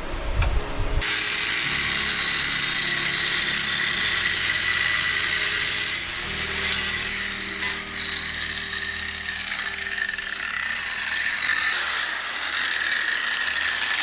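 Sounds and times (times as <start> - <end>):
electric grinder on sheet metal: 1.0 - 14.0.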